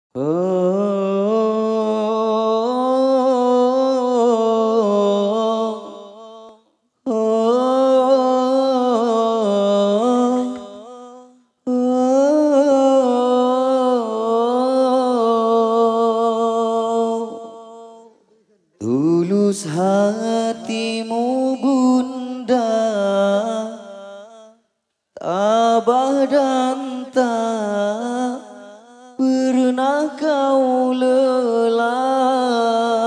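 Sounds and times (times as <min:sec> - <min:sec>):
man singing unaccompanied: 0:00.1 - 0:18.2, 0:18.8 - 0:33.0.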